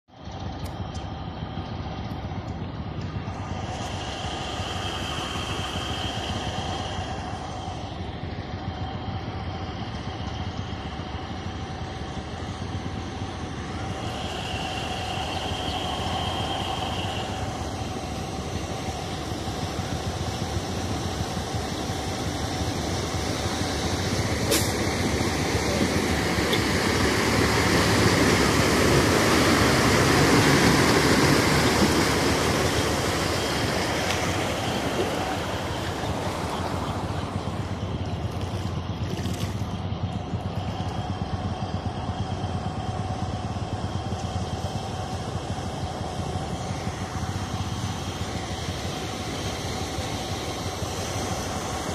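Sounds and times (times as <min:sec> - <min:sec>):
vehicle motor running: 0:00.1 - 0:51.9.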